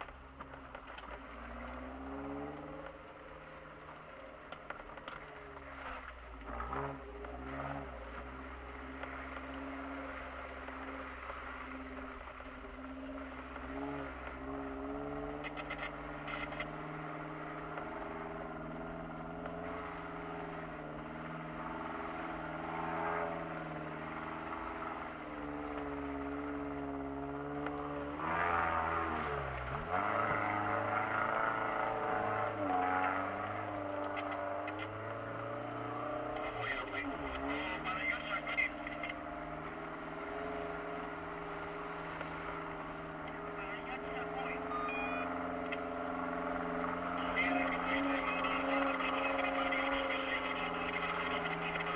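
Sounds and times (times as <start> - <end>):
car engine pulling off-road: 0.0 - 51.9.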